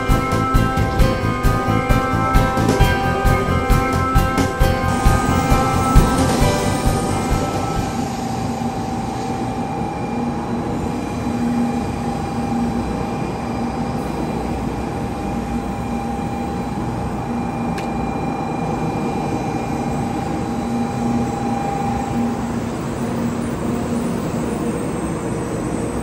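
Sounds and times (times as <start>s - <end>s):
train rolling with steady whine: 0.0s - 26.0s.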